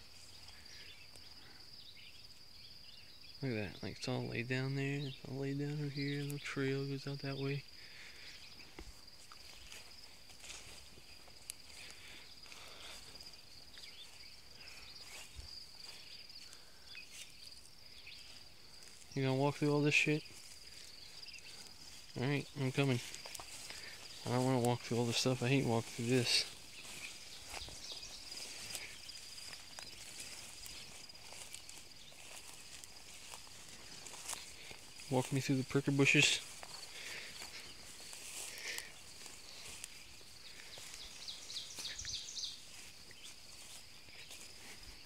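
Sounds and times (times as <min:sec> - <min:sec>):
walking through rustling grass: 0:00.0 - 0:02.4, 0:07.2 - 0:45.0
insects trilling: 0:00.0 - 0:45.0.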